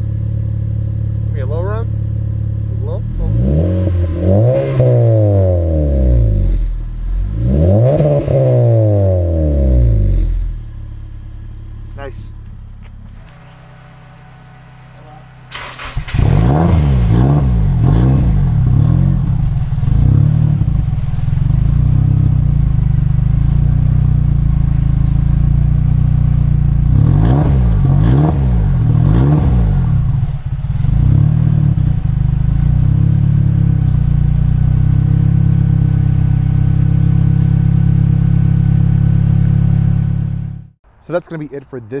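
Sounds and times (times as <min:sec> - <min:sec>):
car engine idling and revving: 0:00.0 - 0:41.8.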